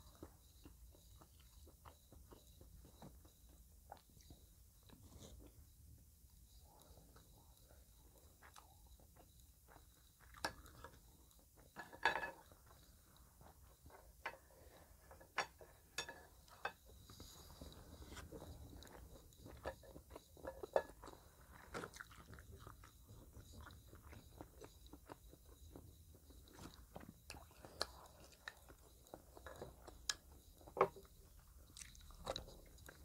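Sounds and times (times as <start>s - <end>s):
chewing and wet mouth sounds: 0.0s - 5.6s, 6.4s - 11.8s, 12.4s - 33.0s.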